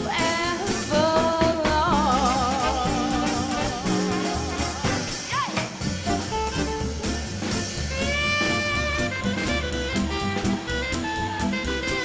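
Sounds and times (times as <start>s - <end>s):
swing band playing: 0.0s - 12.0s.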